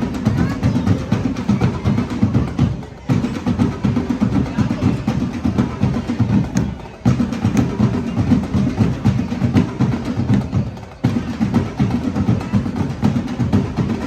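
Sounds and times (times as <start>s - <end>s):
snare and bass drum cadence: 0.0s - 14.0s.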